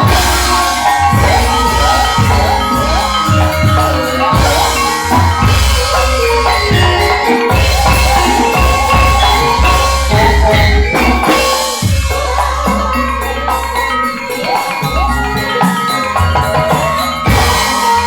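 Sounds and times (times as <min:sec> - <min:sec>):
drums with low beat: 0:00.0 - 0:13.9, 0:14.8 - 0:18.0
bronze metallophones ringing: 0:00.0 - 0:18.0.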